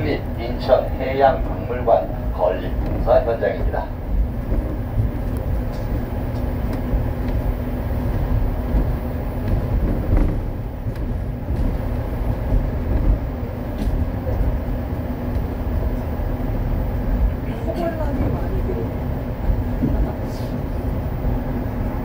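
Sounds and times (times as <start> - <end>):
constant low hum: 0.0 - 22.0
train rumbling on track: 0.0 - 22.0.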